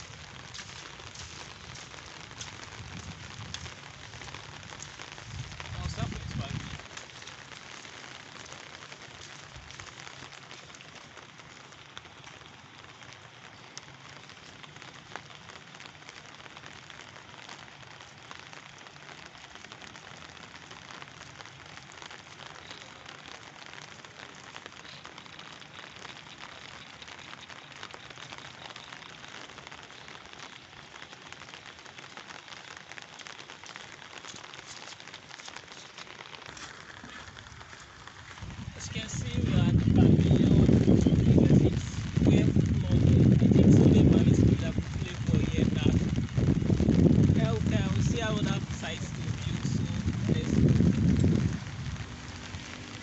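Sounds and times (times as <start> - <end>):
fine crackling hiss: 0.0 - 53.0.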